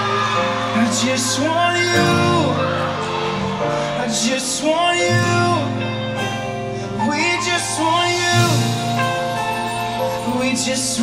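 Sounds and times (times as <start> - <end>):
gospel music: 0.0 - 11.0.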